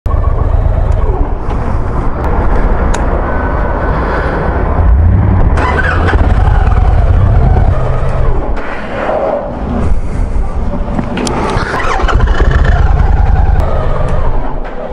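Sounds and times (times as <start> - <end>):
motorcycle engine rumbling: 0.0 - 8.6, 9.6 - 14.9.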